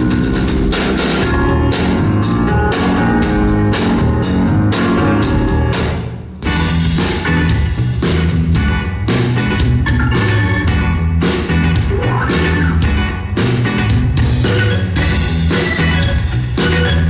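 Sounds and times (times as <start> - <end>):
song with heavy bass and drums: 0.0 - 17.0.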